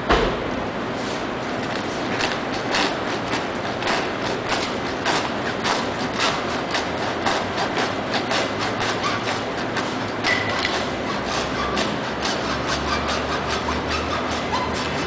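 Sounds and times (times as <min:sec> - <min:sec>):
hand saw strokes: 0:01.8 - 0:15.0.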